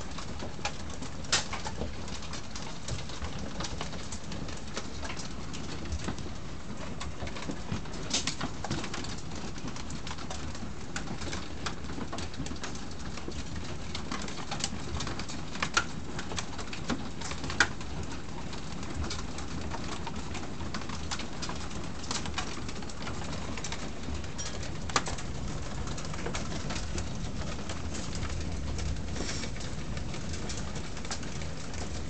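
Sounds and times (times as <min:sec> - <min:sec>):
hailstones striking wooden deck: 0:00.0 - 0:32.0.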